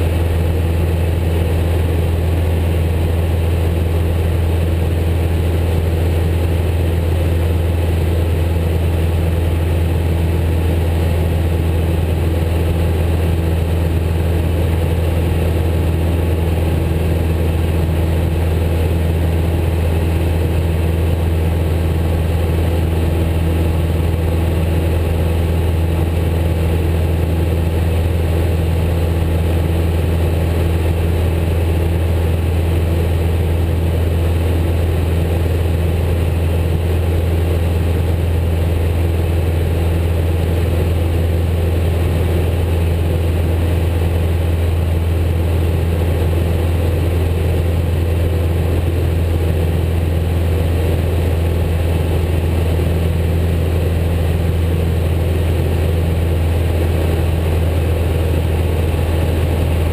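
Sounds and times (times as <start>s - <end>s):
light aircraft engine drone: 0.0s - 59.9s.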